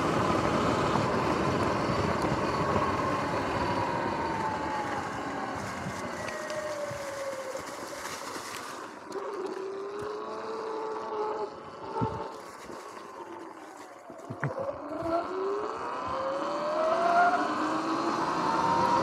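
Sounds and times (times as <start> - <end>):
electric motorbike motor whining: 0.0 - 19.0.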